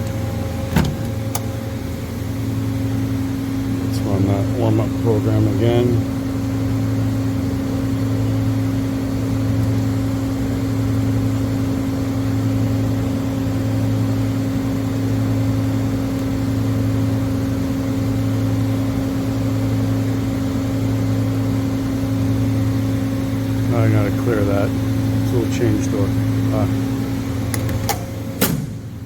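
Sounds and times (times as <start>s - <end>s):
hydraulic pump humming: 0.0s - 29.0s.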